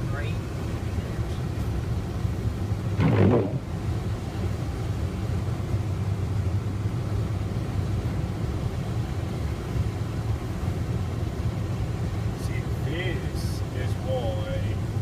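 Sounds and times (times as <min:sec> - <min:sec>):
car interior engine and road noise: 0:00.0 - 0:15.0.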